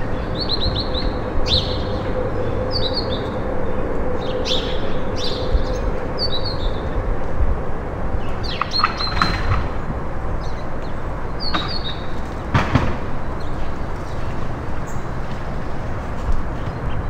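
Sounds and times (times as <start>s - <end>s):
steady rushing background noise: 0.0s - 17.0s.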